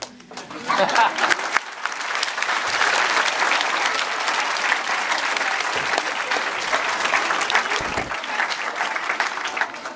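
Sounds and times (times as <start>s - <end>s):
children applauding: 0.4s - 9.9s.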